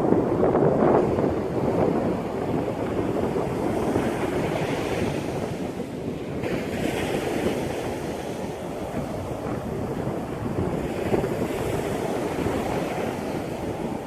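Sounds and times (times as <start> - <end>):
surf rushing: 0.0 - 14.0
wind buffeting microphone: 0.0 - 14.0.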